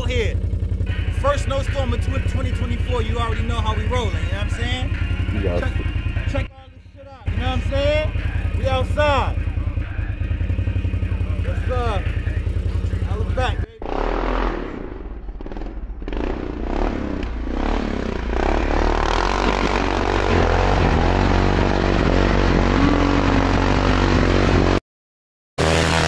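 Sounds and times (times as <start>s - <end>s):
atv engine revving: 0.0s - 6.5s, 7.3s - 24.8s, 25.6s - 26.0s.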